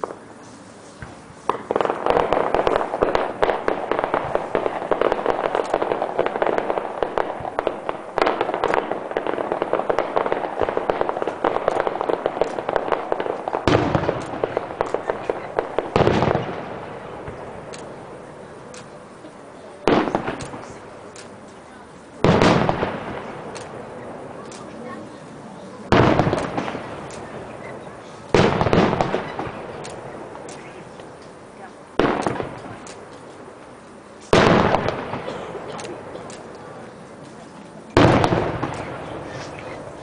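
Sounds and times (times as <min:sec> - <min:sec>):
fireworks crackling bangs: 0:00.0 - 0:40.0
deep firework booms: 0:01.0 - 0:18.6, 0:19.8 - 0:21.2, 0:22.2 - 0:24.4, 0:25.8 - 0:31.0, 0:31.6 - 0:33.2, 0:34.3 - 0:36.5, 0:37.9 - 0:40.0.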